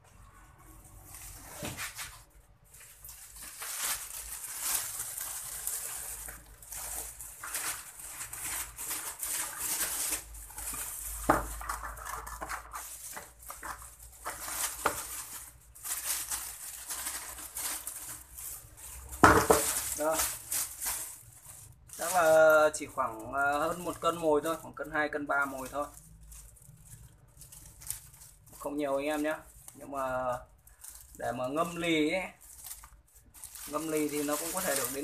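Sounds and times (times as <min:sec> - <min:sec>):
plastic bag rustling: 0:00.0 - 0:35.0.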